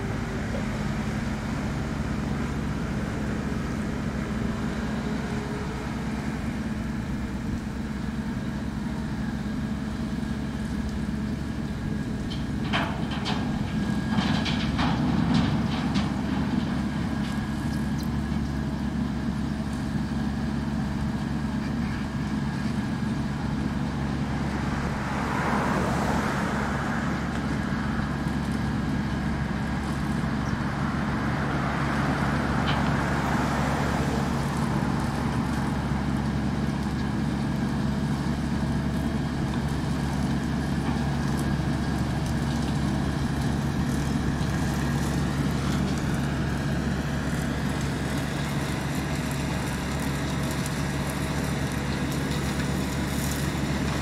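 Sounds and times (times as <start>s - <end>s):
diesel engine hum under load: 0.0s - 54.0s.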